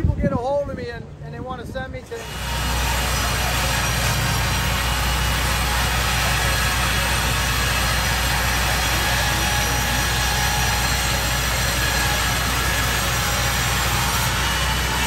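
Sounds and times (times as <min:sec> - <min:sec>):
engines humming: 0:02.0 - 0:15.0
band sawmill cutting log: 0:02.1 - 0:15.0.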